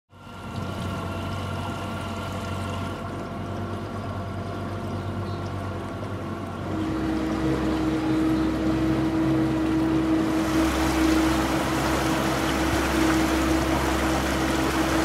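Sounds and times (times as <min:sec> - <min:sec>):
machinery humming: 0:00.3 - 0:15.0.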